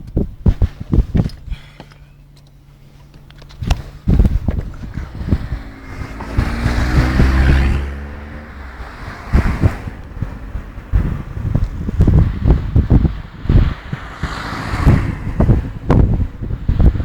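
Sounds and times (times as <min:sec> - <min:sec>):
wind buffeting microphone: 0:00.0 - 0:17.0
heavy low rumble: 0:02.2 - 0:17.0.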